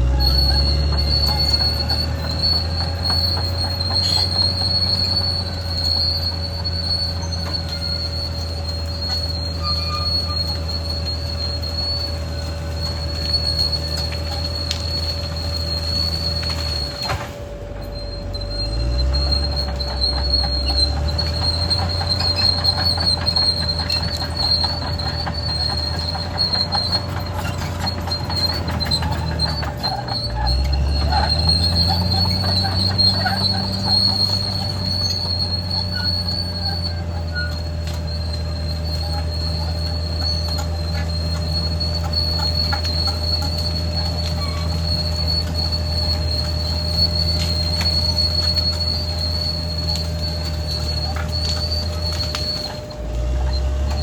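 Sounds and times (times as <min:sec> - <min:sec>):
bulldozer diesel engine under load: 0:00.0 - 0:54.0
high-pitched squeal: 0:00.0 - 0:54.0.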